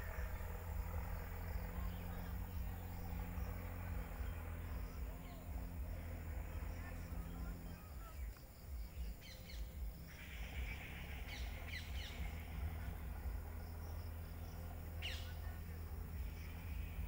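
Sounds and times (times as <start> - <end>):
birds chirping: 0.0 - 17.0
faint insect chirring: 0.0 - 17.0
low rumble: 0.0 - 17.0.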